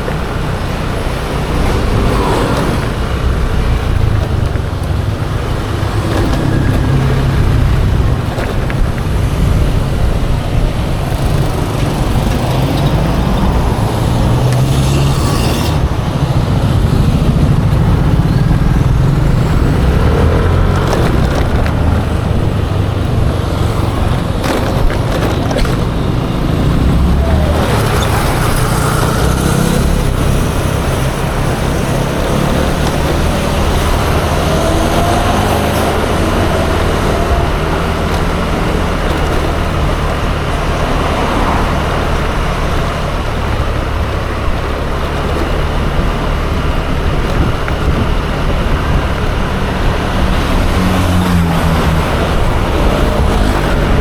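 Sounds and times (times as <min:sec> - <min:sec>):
road traffic: 0:00.0 - 0:54.0
scooter engine: 0:00.0 - 0:54.0
wind rumble on microphone: 0:00.0 - 0:54.0.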